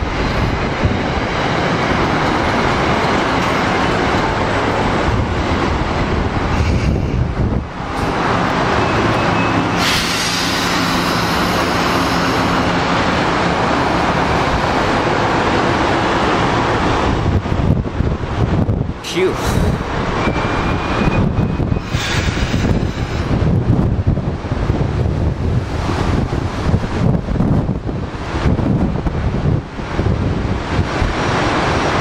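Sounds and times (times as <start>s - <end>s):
train wheels rushing on rail: 0.0s - 32.0s.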